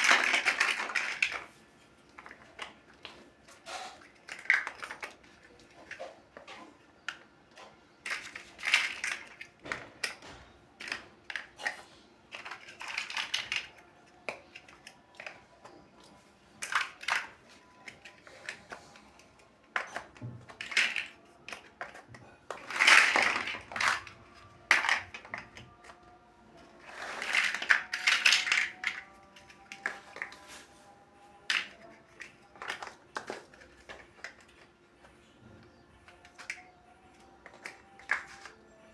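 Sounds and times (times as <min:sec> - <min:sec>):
plastic blocks clicking: 0:00.0 - 0:30.7, 0:31.4 - 0:38.9
plastic pieces rattling: 0:00.0 - 0:30.7, 0:31.4 - 0:34.7, 0:36.0 - 0:38.7.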